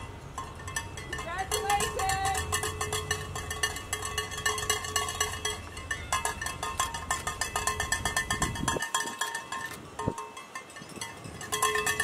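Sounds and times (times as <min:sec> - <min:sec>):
bells clanging rapidly: 0:00.0 - 0:12.0
low rumble of vehicles passing: 0:00.0 - 0:12.0.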